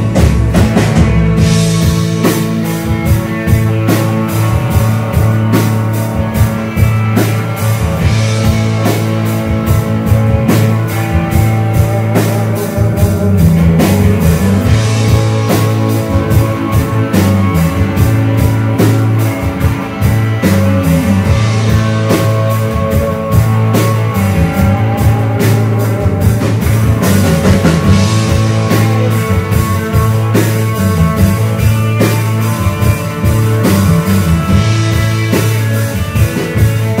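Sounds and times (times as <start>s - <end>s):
drum kit beat: 0.0s - 37.0s
electric guitar: 0.0s - 37.0s.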